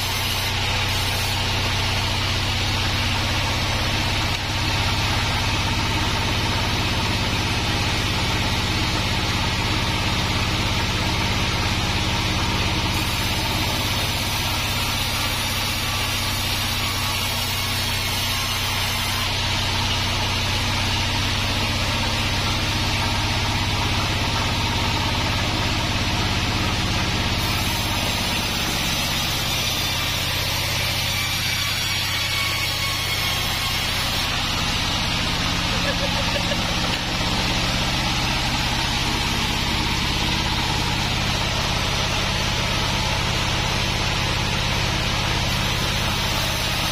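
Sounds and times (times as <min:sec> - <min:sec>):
band sawmill cutting log: 0:00.0 - 0:46.9
stationary engine running: 0:00.0 - 0:46.9.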